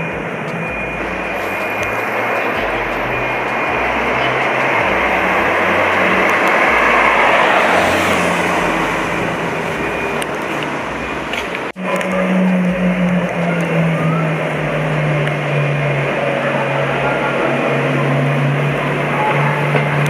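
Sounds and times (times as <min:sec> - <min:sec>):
car passing: 0:00.0 - 0:20.0.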